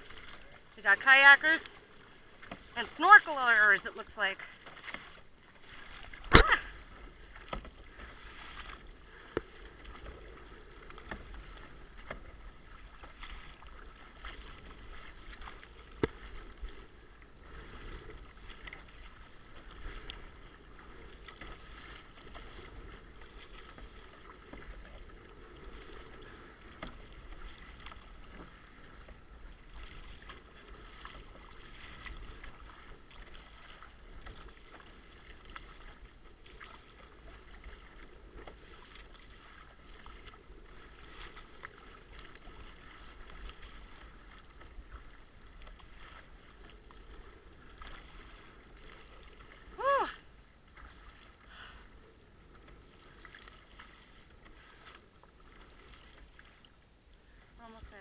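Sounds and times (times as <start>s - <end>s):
paddle splashing in water: 0.0s - 58.0s
water washing against hull: 0.0s - 58.0s.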